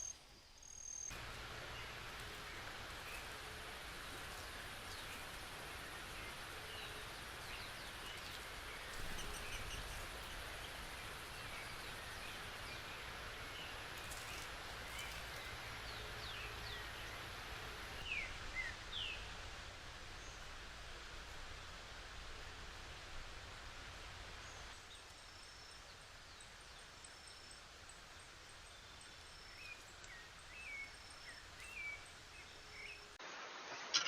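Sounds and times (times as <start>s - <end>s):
steady microphone hiss: 0.0s - 34.0s.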